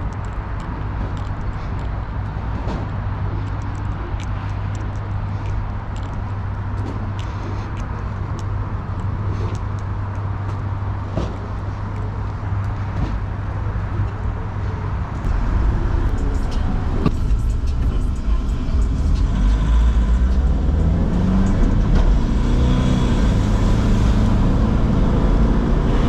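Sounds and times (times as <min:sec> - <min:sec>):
rumble of vehicles: 0:00.0 - 0:26.0.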